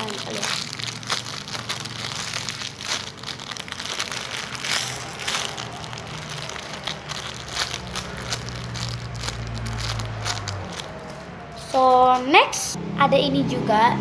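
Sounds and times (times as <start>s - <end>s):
squishy toy crinkling in hands: 0.0s - 11.2s.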